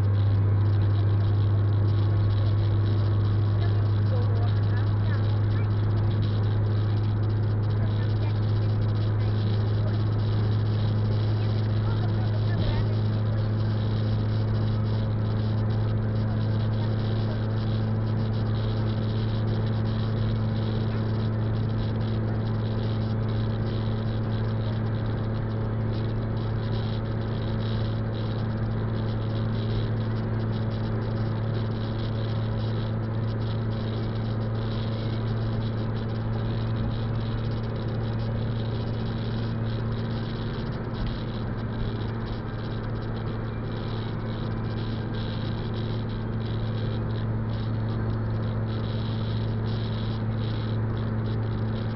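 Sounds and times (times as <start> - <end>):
car interior hum: 0.0 - 51.9.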